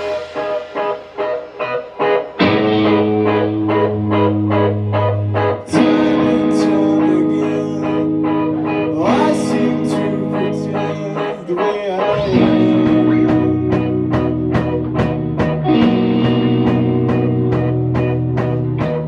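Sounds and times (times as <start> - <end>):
live rock band: 0.0 - 19.0
strummed guitar chords: 0.0 - 19.0.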